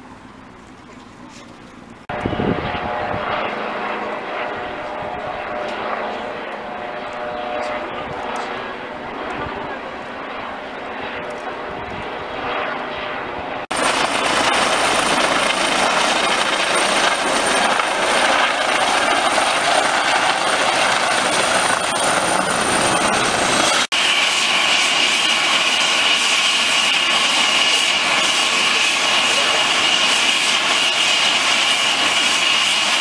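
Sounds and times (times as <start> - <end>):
high engine whine: 0.0 - 12.1, 13.6 - 33.0
helicopter rotor and engine: 1.6 - 33.0.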